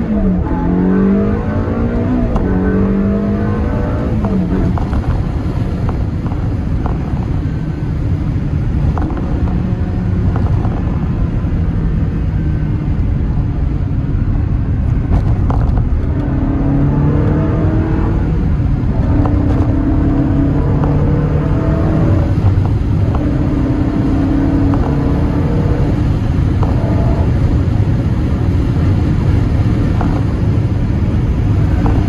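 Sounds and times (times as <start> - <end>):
sports car engine droning: 0.0 - 32.0.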